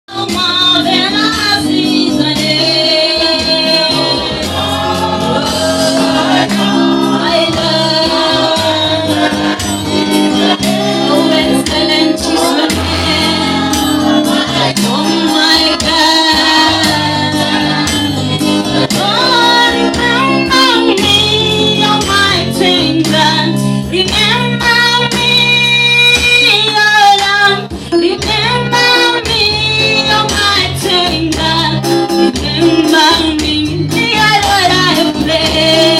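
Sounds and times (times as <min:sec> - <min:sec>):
group singing gospel: 0:00.1 - 0:23.2, 0:28.6 - 0:35.9
instrumental accompaniment: 0:00.1 - 0:35.9.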